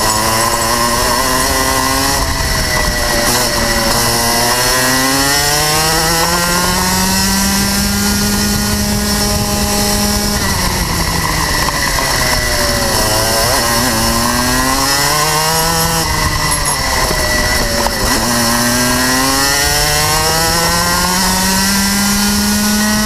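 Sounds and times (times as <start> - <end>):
kart engine revving: 0.0 - 23.0.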